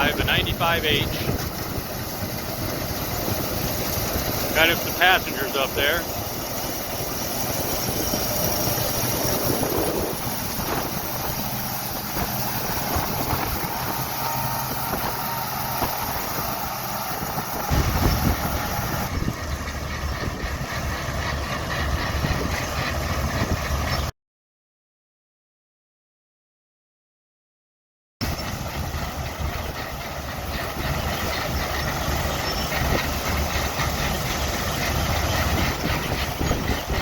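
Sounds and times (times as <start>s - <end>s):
combine harvester running: 0.0s - 24.1s, 28.2s - 37.0s.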